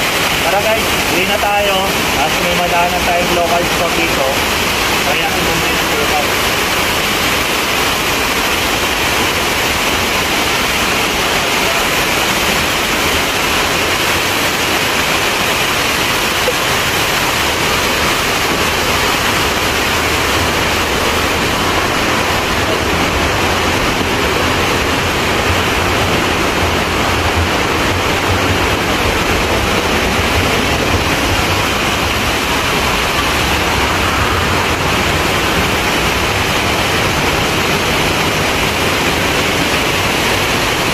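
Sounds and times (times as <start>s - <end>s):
water rushing over a dam: 0.0s - 40.9s.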